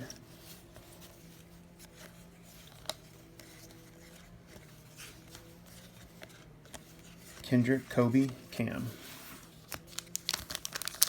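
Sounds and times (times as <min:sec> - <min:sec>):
trading cards flipped by hand: 0:00.0 - 0:07.5, 0:09.2 - 0:11.0
faint steady hum: 0:00.0 - 0:11.0.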